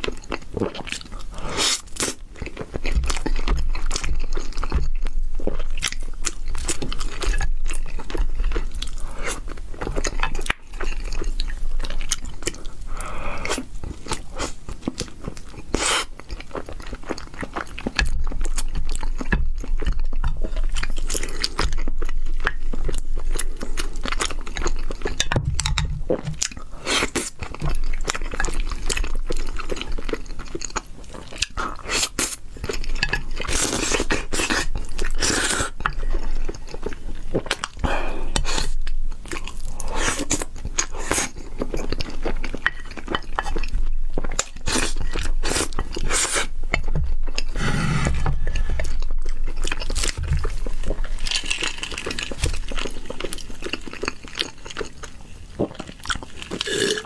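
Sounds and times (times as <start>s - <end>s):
wet chewing and mouth clicks: 0.0s - 57.0s.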